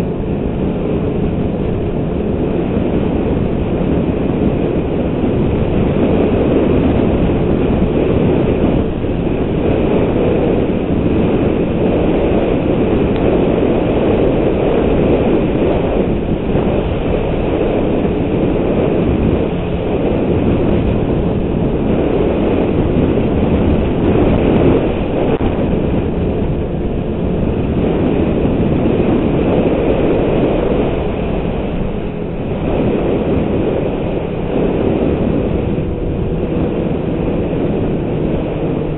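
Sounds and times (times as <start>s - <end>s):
snowmobile engine and track rumble: 0.0s - 38.9s.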